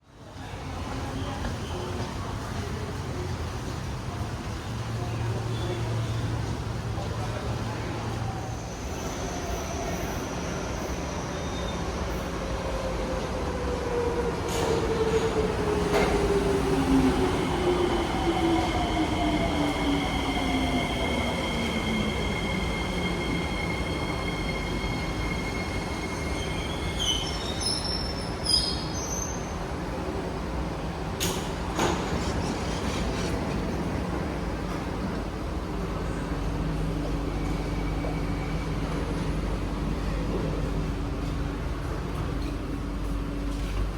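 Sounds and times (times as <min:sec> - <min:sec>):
running train rumble: 0:00.5 - 0:43.9.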